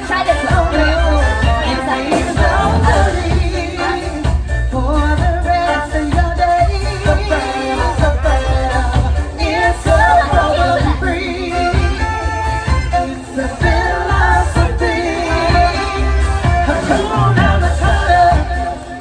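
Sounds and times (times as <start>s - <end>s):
person singing: 0.0s - 19.0s
street band playing dance music: 0.0s - 19.0s.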